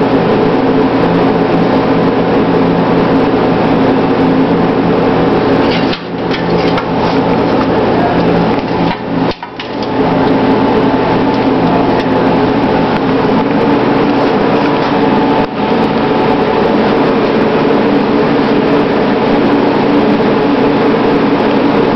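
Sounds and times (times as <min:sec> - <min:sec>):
loud rattling machinery hum: 0:00.0 - 0:21.9.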